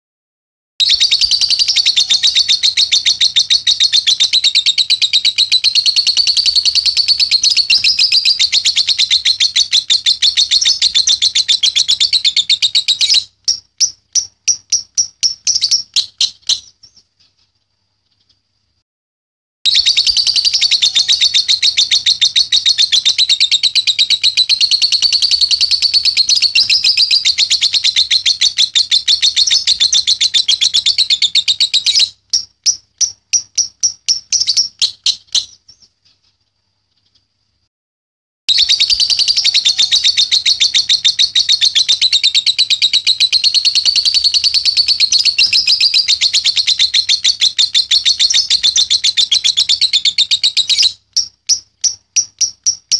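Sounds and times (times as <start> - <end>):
bird chattering high chirps: 0.8 - 17.0, 19.7 - 35.9, 38.5 - 52.9.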